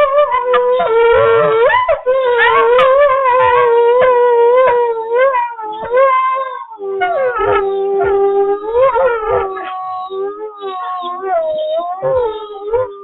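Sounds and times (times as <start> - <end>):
lower wolf howl: 0.0 - 13.0
wolves howling: 0.0 - 13.0.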